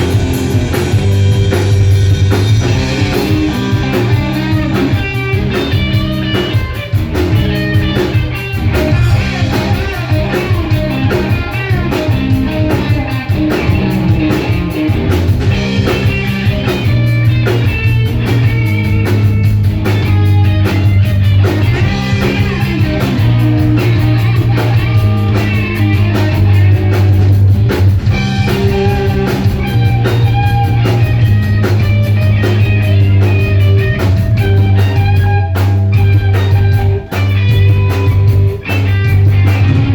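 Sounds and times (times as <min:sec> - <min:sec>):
drum kit with cymbal ticks: 0:00.0 - 0:39.9
electric guitar: 0:00.0 - 0:39.9
held bass notes: 0:00.0 - 0:39.9.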